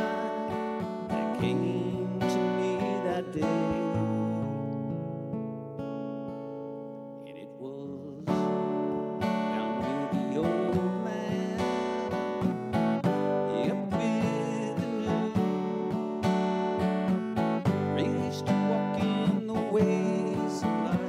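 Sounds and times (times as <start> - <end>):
guitar strumming and picking: 0.0 - 21.0.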